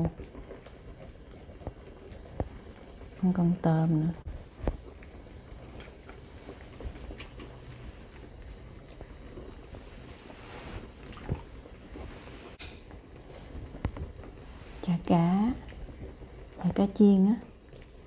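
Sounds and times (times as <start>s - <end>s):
broth simmering in a pot: 0.0s - 18.0s.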